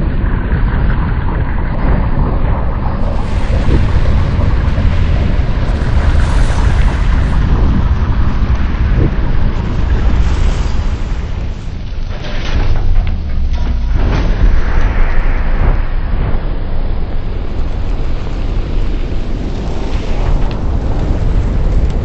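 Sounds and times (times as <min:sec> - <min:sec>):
slowed rocket launch roar: 0:00.0 - 0:22.0.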